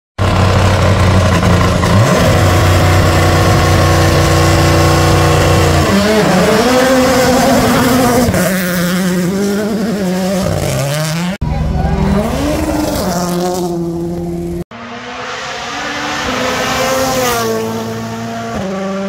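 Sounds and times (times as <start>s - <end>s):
rally car engine revving: 0.2s - 19.0s.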